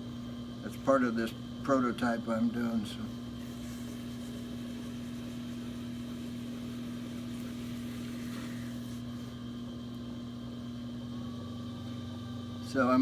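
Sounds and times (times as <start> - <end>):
potter's wheel motor humming: 0.0 - 13.0.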